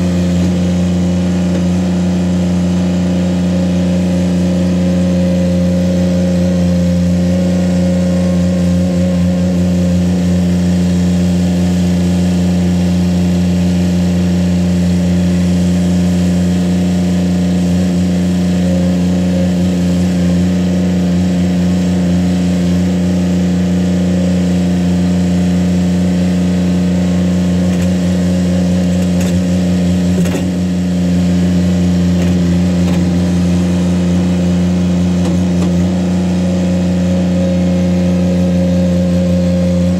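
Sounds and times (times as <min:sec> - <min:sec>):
mini skid steer engine running: 0:00.0 - 0:39.9.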